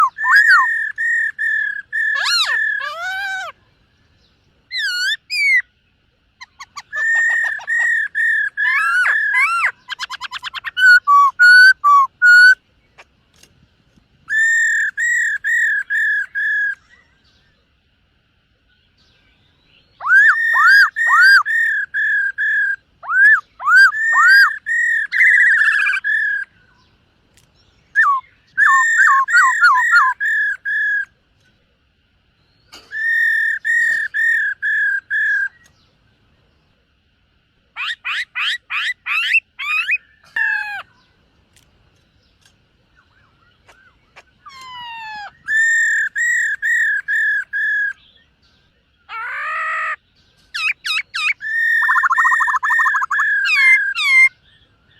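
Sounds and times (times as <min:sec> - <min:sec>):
bird whistled song: 0:00.0 - 0:05.8, 0:06.4 - 0:13.1, 0:14.2 - 0:17.7, 0:18.7 - 0:31.6, 0:32.4 - 0:36.6, 0:37.7 - 0:41.2, 0:42.0 - 0:54.9.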